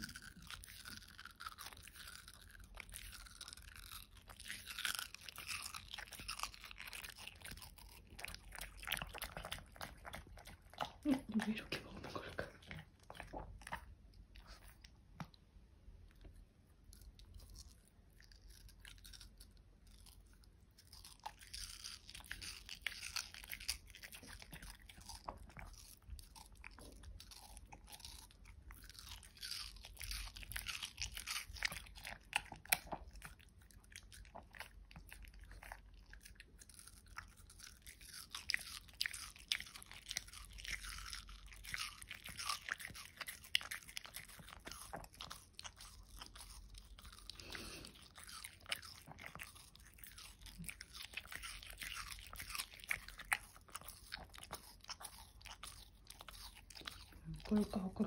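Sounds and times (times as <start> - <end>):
dog crunching watermelon: 0.0 - 58.0.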